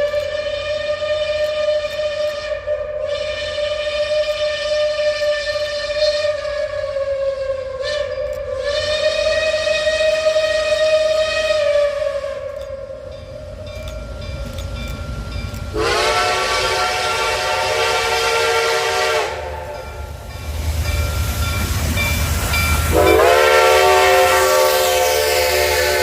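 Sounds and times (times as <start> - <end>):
steam whistle chime blasts: 0.0 - 13.3, 15.3 - 26.0
locomotive low rumble: 0.0 - 26.0.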